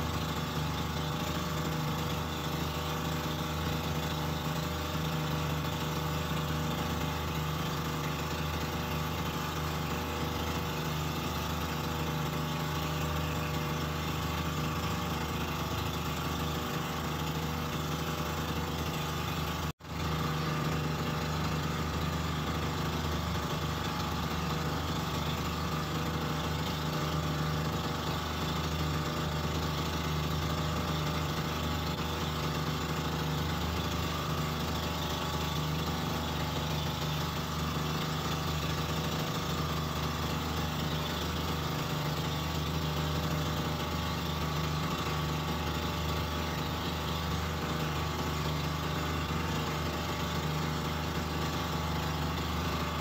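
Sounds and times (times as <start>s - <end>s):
boat engine droning: 0.0s - 53.0s.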